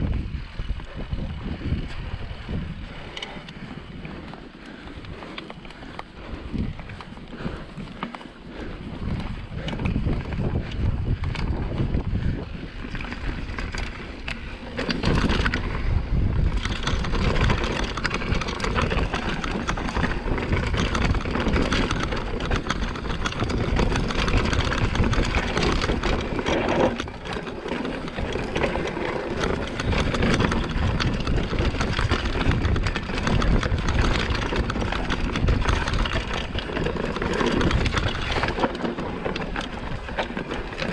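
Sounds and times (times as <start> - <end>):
bike rattling over loose rock: 0.0 - 40.9
wind buffeting microphone: 0.0 - 40.9.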